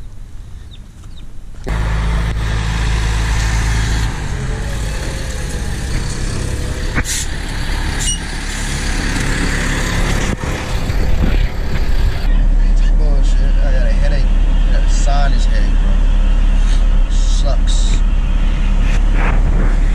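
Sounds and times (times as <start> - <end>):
diesel truck engine rumbling: 0.0 - 19.9.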